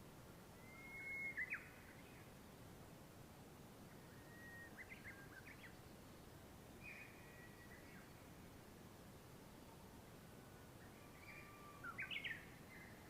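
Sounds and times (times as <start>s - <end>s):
low steady hiss: 0.0s - 13.0s
faint birdsong: 0.5s - 2.5s, 3.8s - 13.0s.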